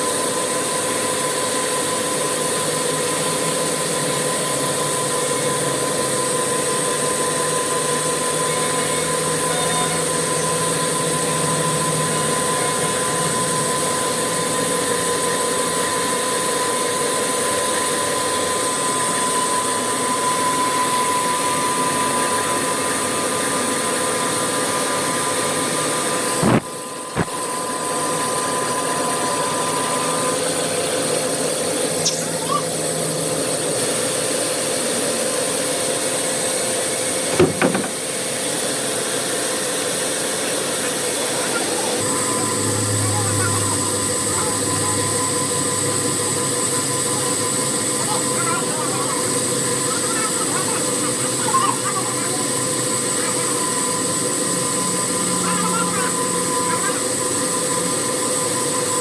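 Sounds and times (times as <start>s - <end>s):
machinery hiss and whine: 0.0s - 59.0s.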